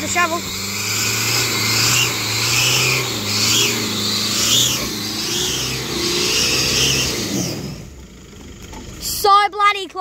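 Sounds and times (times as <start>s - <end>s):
engine revving under load: 0.0s - 8.1s
tyres churning in mud: 0.0s - 9.1s.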